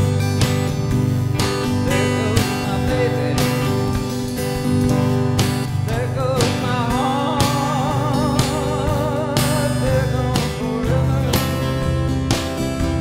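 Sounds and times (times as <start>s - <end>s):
acoustic guitar strumming: 0.0s - 13.0s
drum kit beat: 0.0s - 13.0s
electric guitar: 0.0s - 13.0s.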